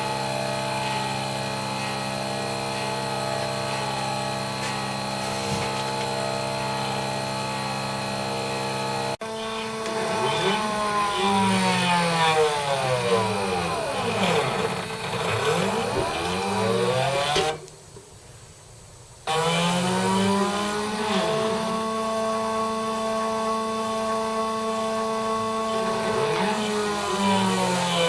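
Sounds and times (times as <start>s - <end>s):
stepper motors whining: 0.0s - 18.0s, 19.2s - 28.0s
steady hum: 0.0s - 28.0s.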